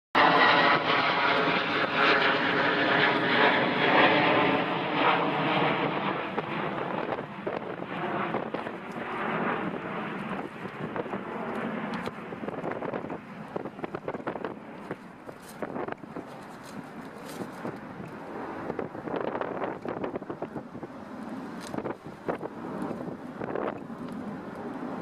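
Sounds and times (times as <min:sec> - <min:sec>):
jet engines whining: 0:00.2 - 0:25.0.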